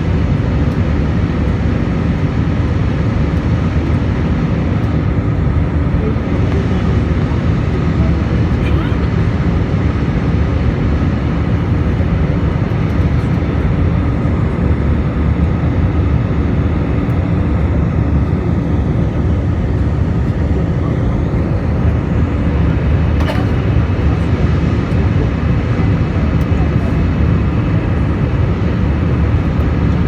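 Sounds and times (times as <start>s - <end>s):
jet engines roaring in cabin: 0.0s - 30.0s.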